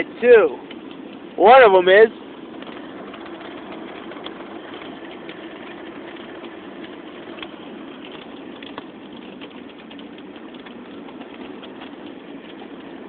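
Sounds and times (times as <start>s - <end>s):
car interior hum: 0.0s - 13.0s.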